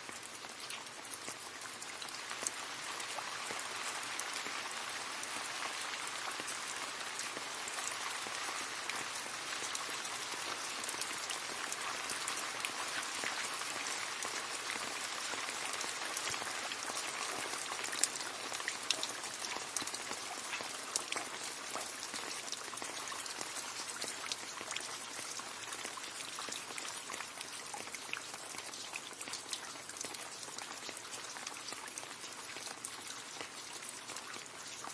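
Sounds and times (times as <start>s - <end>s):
rain splashing into puddle: 0.0s - 34.9s.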